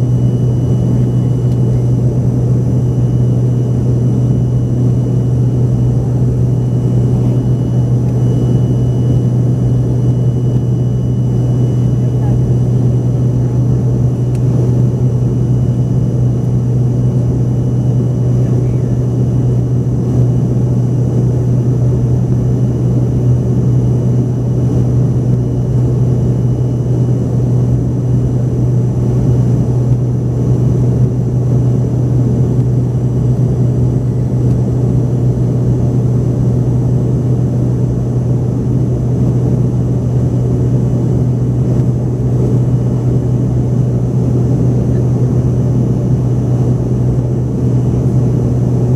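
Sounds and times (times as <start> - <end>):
jet engines droning in cabin: 0.0 - 48.9.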